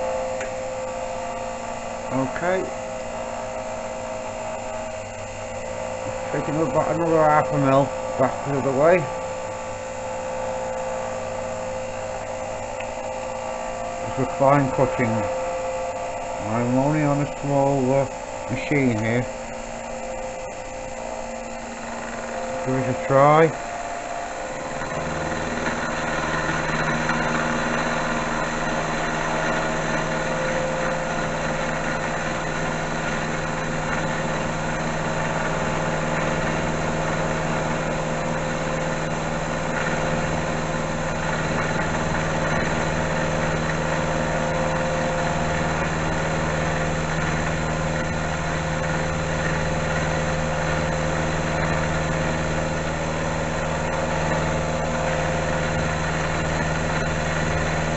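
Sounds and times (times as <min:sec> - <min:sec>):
metal lathe humming and whining: 0:00.0 - 0:57.9.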